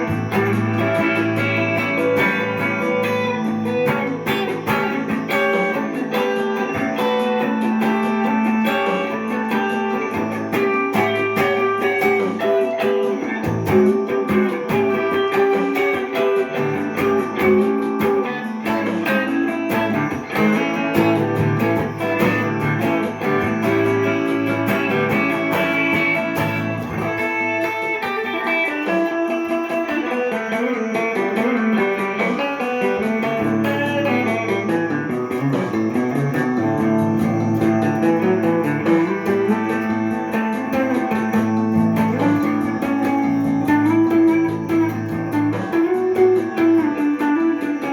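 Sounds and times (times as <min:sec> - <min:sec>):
jazzy electric guitar: 0:00.0 - 0:47.9.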